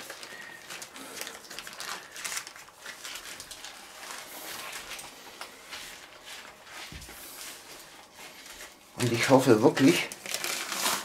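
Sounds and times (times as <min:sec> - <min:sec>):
baking paper crinkling: 0:00.0 - 0:11.0.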